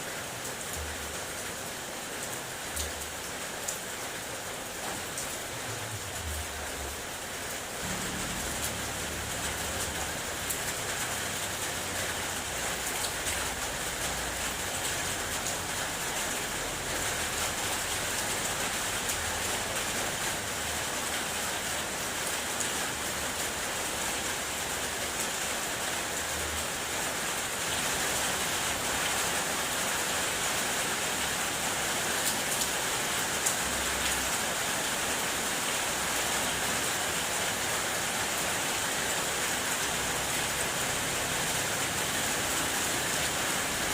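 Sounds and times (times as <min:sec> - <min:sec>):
rain on a car roof: 0:00.0 - 0:43.9.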